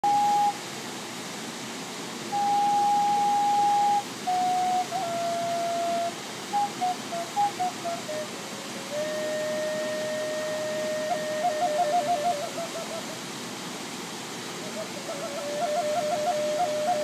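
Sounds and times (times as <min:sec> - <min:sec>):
flute playing slow melody: 0:00.0 - 0:00.8, 0:02.3 - 0:13.3, 0:14.6 - 0:17.0
waterfall rushing: 0:00.0 - 0:17.0.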